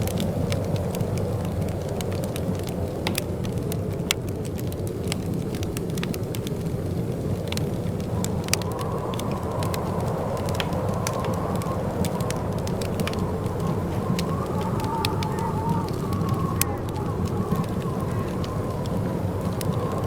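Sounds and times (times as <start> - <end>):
fireplace fire crackling: 0.0 - 20.0
low fire rumble: 0.0 - 20.0
sharp fire pops: 0.0 - 20.0.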